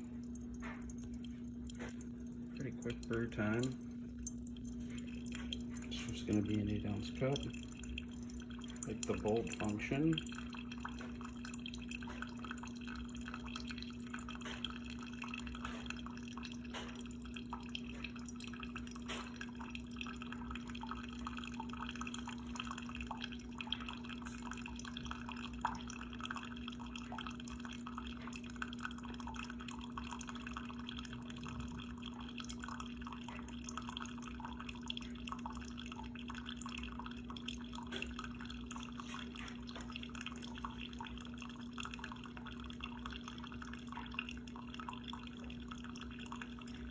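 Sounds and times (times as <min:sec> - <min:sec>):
coffee dripping into cup: 0:00.0 - 0:46.9
coffee maker humming: 0:00.0 - 0:46.9.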